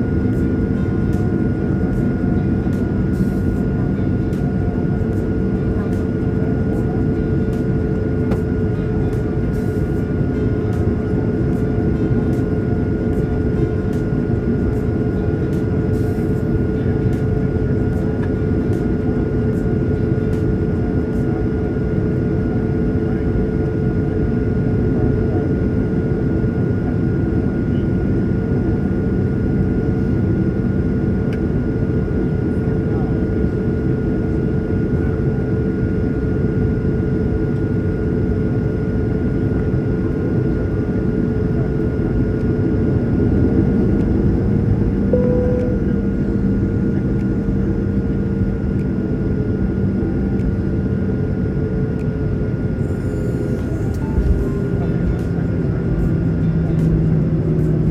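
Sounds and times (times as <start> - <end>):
airliner cabin engine drone: 0.0 - 57.9.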